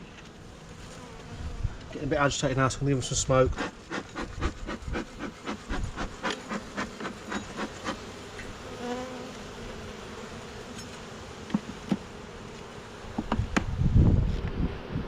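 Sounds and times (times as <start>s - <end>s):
bee flying past: 0.0s - 2.3s, 3.3s - 15.0s
honeybees buzzing: 0.0s - 15.0s.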